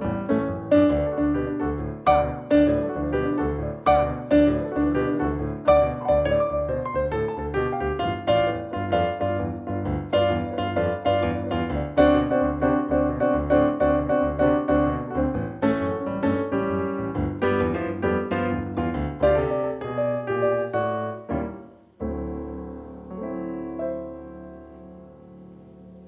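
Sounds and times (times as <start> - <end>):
boogie-woogie piano: 0.0 - 26.0.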